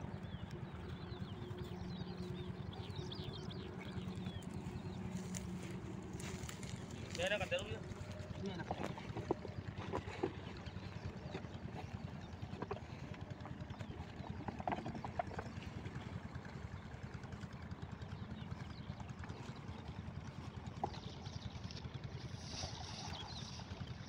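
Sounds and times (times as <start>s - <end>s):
diesel pump engine running: 0.0s - 24.0s.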